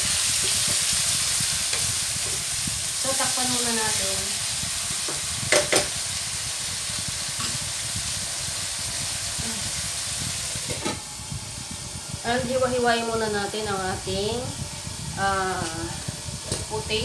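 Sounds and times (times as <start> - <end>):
chicken sizzling in a wok: 0.0 - 17.0.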